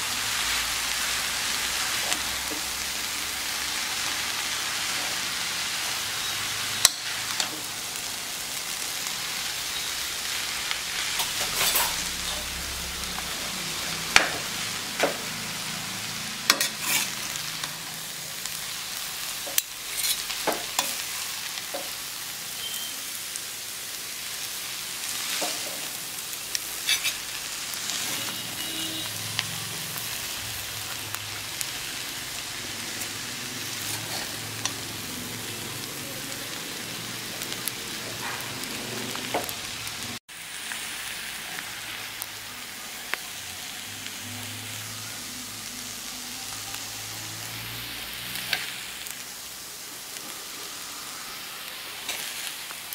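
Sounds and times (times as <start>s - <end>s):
noodles sizzling in a wok: 0.0s - 52.9s.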